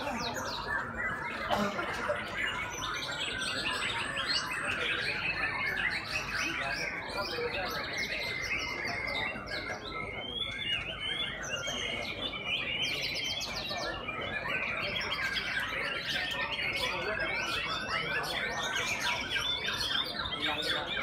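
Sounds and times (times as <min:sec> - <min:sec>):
birds singing in chorus: 0:00.0 - 0:21.0.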